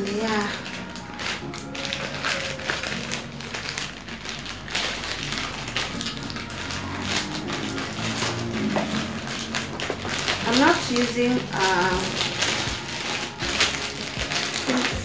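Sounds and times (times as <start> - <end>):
plastic bag crinkling and tearing: 0.0 - 15.0.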